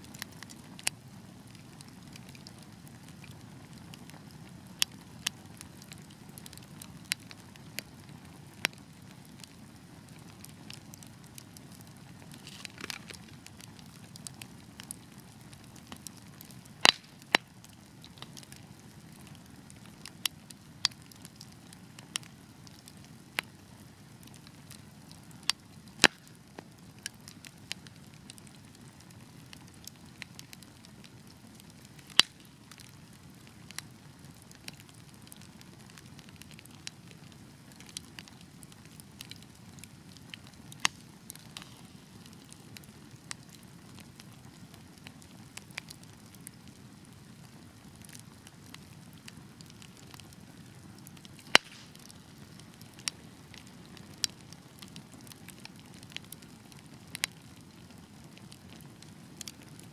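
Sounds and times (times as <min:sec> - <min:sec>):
fire crackling in a fireplace: 0:00.0 - 0:59.9.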